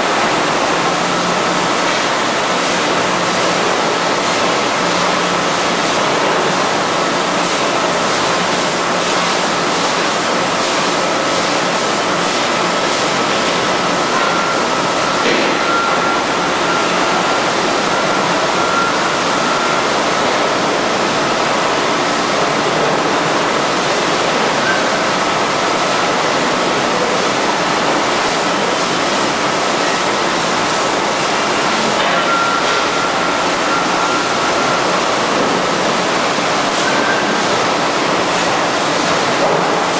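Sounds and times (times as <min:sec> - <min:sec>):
bottling machinery rushing: 0:00.0 - 0:39.9.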